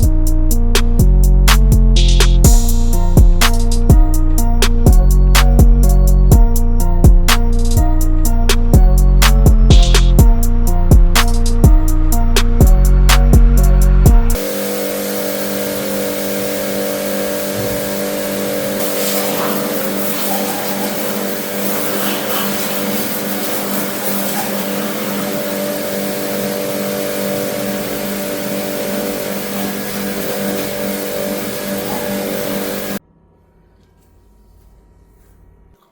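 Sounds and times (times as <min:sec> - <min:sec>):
motorcycle engine running: 0:02.4 - 0:33.0.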